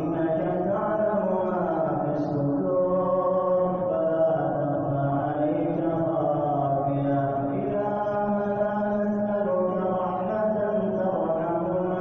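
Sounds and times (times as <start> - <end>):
person chanting a prayer: 0.0 - 12.0.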